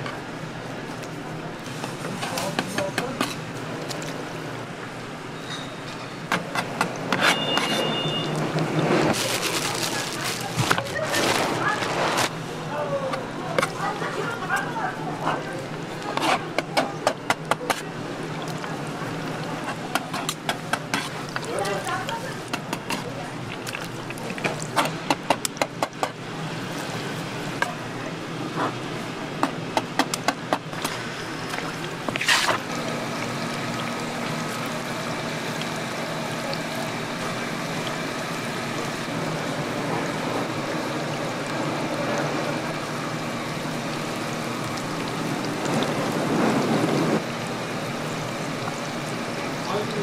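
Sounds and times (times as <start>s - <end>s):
oil sizzling in deep fryer: 0.0s - 50.0s.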